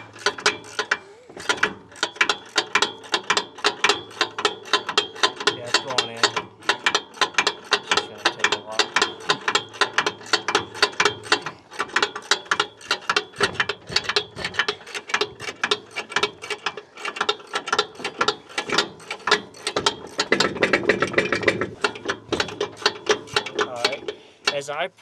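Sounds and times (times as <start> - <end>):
ratchet wrench clicking: 0.0 - 24.7.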